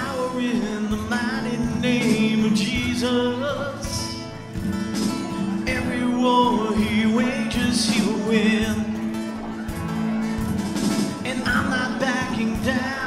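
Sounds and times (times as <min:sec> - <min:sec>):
person singing: 0:00.0 - 0:04.5, 0:05.1 - 0:13.0
acoustic and electric guitars: 0:00.0 - 0:13.0.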